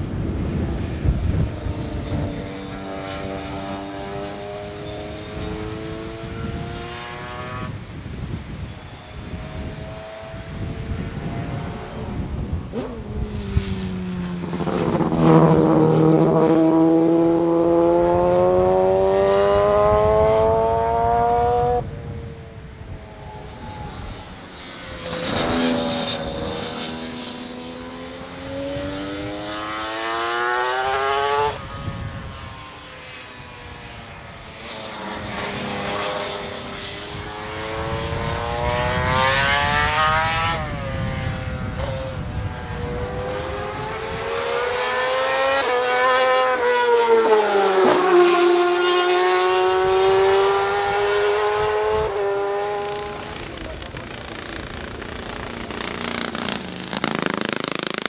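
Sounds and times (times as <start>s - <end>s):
racing motorcycle engines revving: 0.0s - 58.0s.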